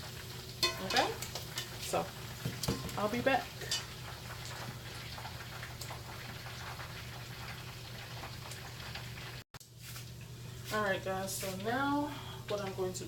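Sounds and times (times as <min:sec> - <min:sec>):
chicken wings sizzling in oil: 0:00.0 - 0:13.0.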